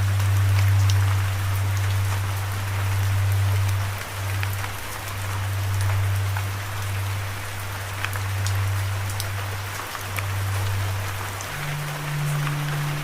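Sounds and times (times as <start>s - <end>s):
low steady hum: 0.0s - 13.0s
steady rain: 0.0s - 13.0s.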